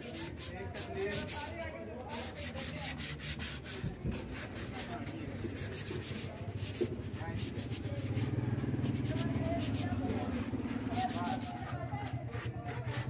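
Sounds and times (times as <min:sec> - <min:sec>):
hand rubbing wooden table leg: 0:00.0 - 0:13.0.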